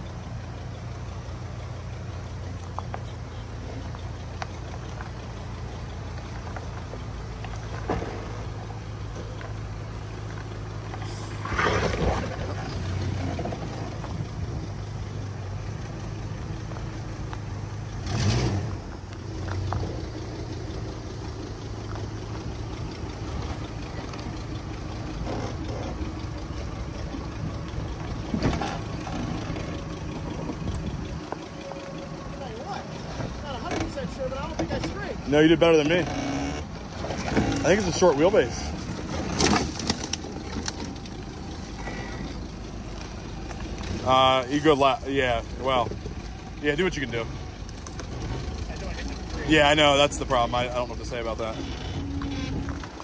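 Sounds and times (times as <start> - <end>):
truck engine low drone: 0.0 - 53.0.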